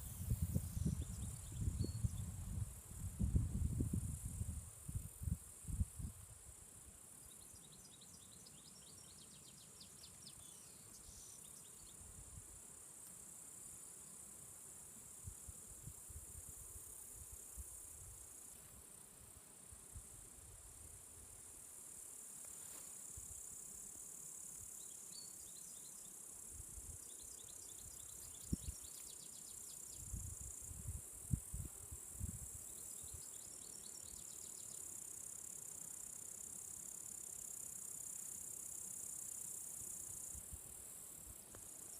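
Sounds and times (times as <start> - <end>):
insects chirring: 0.0 - 41.9.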